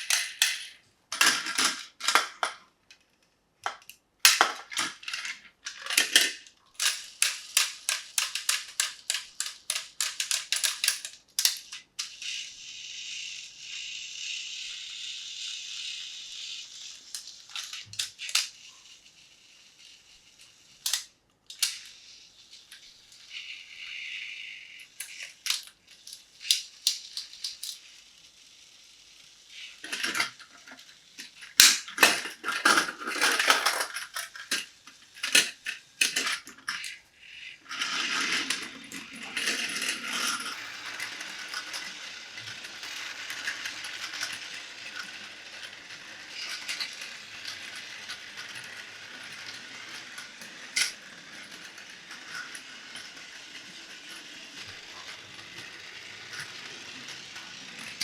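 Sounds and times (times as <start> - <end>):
toy motor and gears whirring: 0.0 - 2.6, 3.6 - 58.0
plastic toy pieces clattering: 0.0 - 12.2, 16.9 - 18.6, 20.3 - 24.1, 24.8 - 28.0, 29.6 - 58.0.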